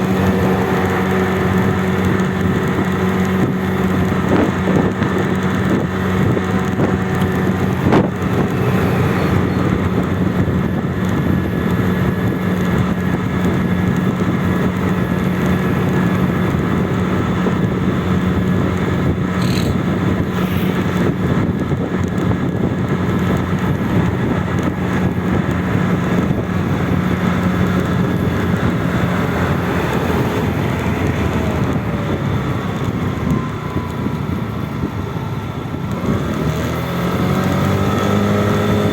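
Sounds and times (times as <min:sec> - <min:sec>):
road and wind noise: 0:00.0 - 0:38.9
vehicle engine hum: 0:00.0 - 0:38.9.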